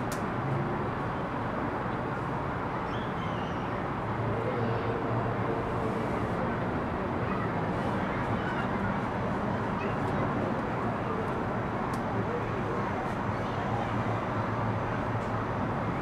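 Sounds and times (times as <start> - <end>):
urban background rumble: 0.0 - 16.0.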